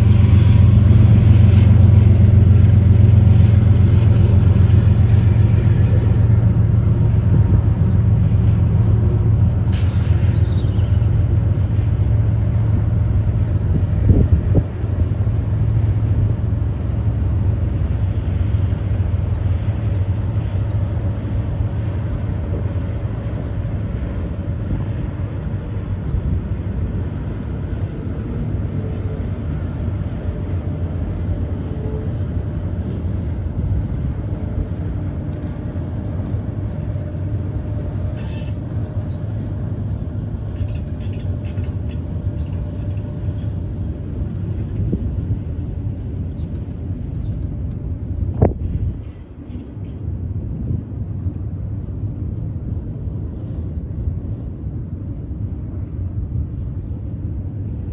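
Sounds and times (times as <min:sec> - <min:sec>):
freight train rumbling on rails: 0:00.0 - 0:57.9.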